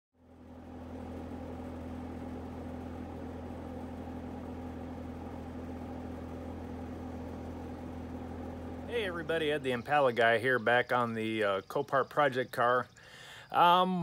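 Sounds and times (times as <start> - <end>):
motor humming: 0.2 - 14.0.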